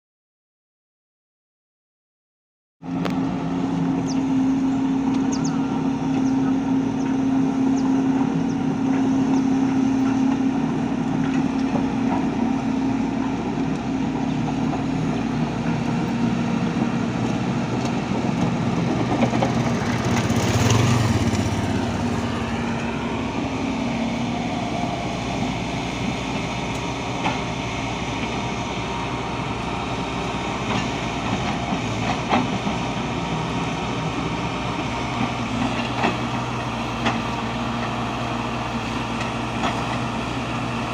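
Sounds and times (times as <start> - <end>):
engine running steadily: 2.8 - 40.9.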